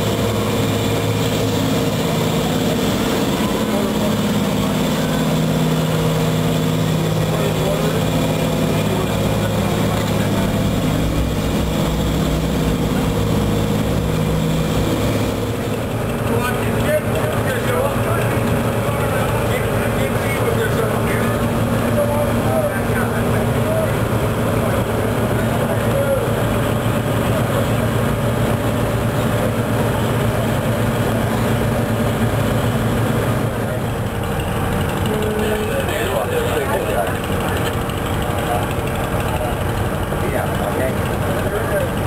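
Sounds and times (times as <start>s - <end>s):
boat engine droning: 0.0s - 42.0s.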